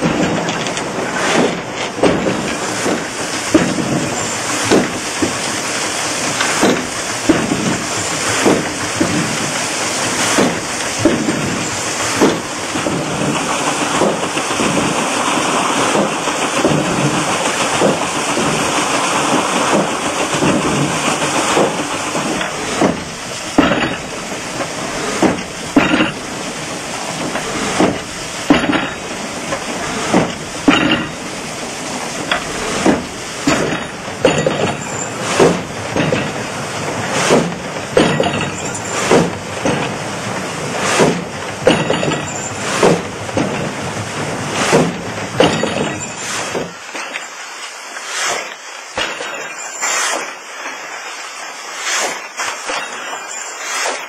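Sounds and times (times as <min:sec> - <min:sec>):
sawmill machinery knocks: 0:00.0 - 0:47.3
steady rushing noise: 0:00.0 - 0:54.0.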